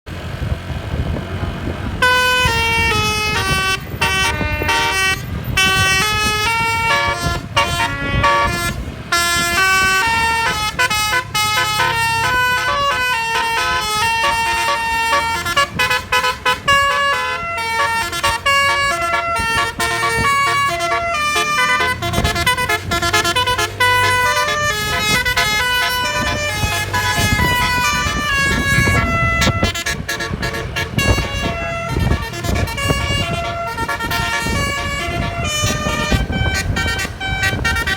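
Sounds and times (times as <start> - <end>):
bus engine rumble: 0.0 - 37.9
multi-tone bus air horn melody: 1.9 - 37.9.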